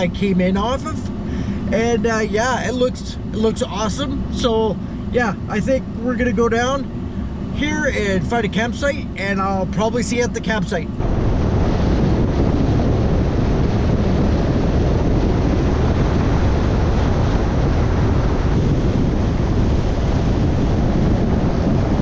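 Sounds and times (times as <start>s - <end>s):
loud rushing rumble: 0.0s - 22.0s.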